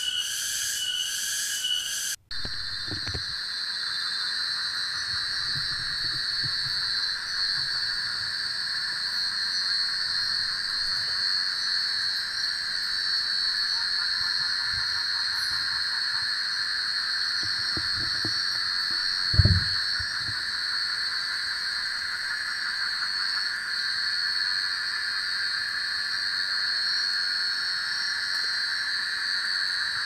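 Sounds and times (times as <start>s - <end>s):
night insects droning: 0.0s - 30.0s.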